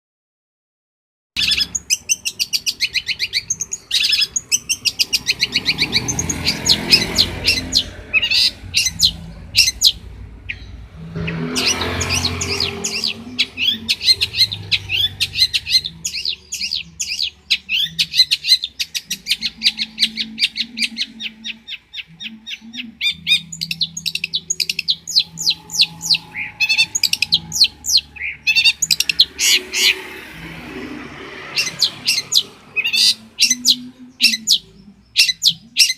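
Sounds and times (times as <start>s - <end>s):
shrike singing: 1.4s - 35.9s.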